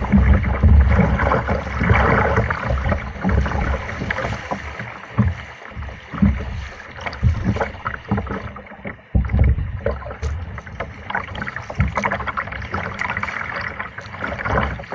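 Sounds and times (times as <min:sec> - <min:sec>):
dull low thumps: 0:00.0 - 0:12.5
paddle splashing in water: 0:00.0 - 0:14.9.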